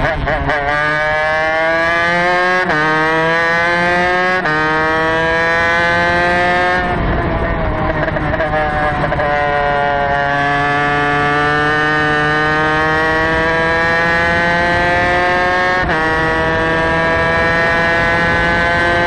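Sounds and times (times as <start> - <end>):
racing engine revving: 0.0 - 19.0.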